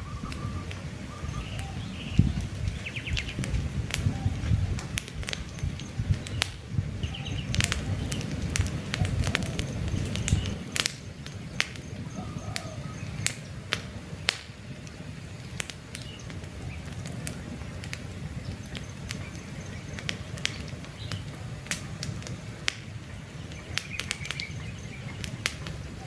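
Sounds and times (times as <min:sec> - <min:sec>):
campfire crackling: 0:00.0 - 0:26.0
faint birds chirping: 0:00.0 - 0:26.0.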